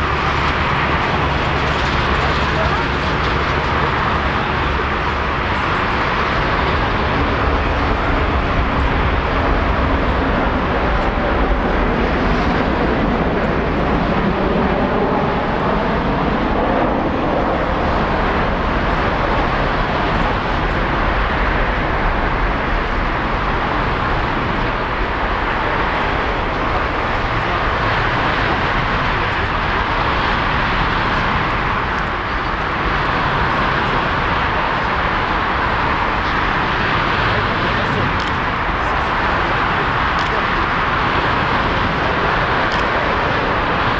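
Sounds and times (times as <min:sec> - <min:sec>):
jet engine rushing: 0:00.0 - 0:43.9.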